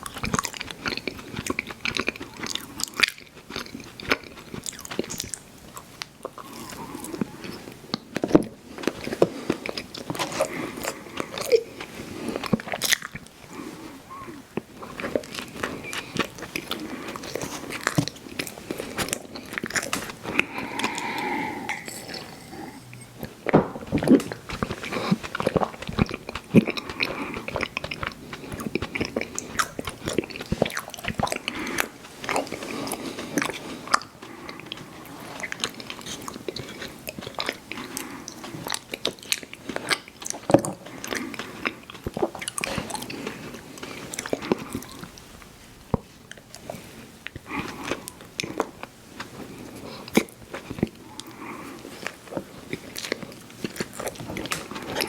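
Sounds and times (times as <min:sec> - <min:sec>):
mouth chewing sticky candy: 0:00.0 - 0:55.0.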